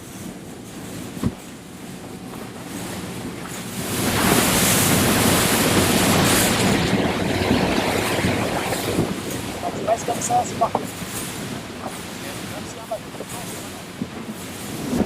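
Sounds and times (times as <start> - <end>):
motorboat engine hum: 0.0 - 15.0
water washing: 0.0 - 15.0
wind and spray on microphone: 0.0 - 15.0.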